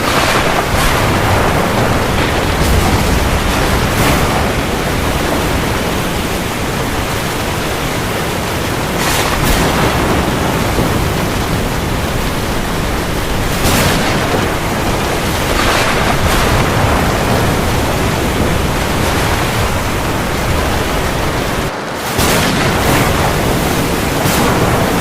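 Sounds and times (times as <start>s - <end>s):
heavy rain on the sea: 0.0s - 25.0s.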